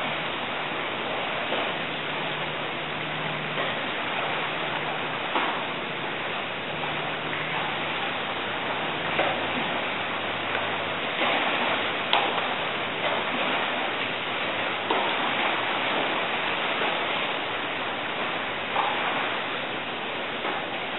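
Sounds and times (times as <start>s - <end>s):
seawater washing around pilings: 0.0s - 20.9s.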